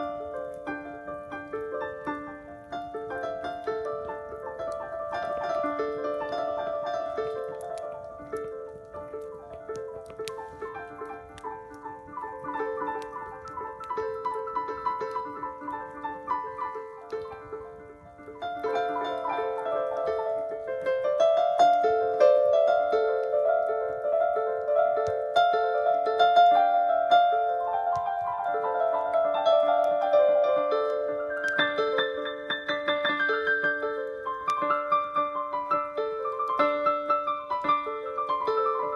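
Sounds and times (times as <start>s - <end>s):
improvised piano keyboard music: 0.0s - 38.9s.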